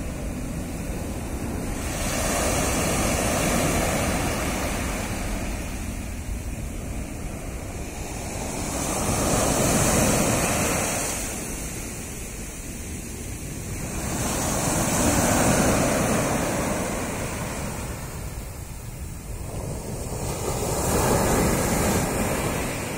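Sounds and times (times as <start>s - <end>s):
waves breaking on sand: 0.0s - 22.9s.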